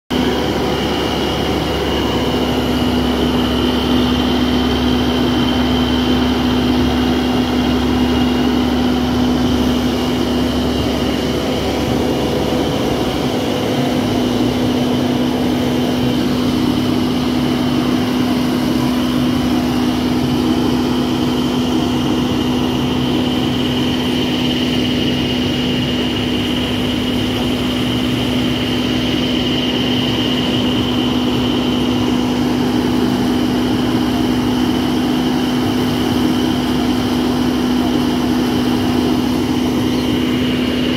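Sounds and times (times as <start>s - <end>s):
diesel engine running: 0.1s - 40.9s
high whine: 0.1s - 40.9s.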